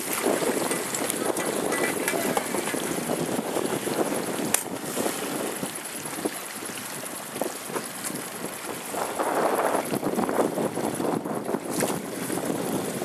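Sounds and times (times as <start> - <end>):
sea water splashing around boat: 0.0 - 13.0
wind: 0.0 - 13.0.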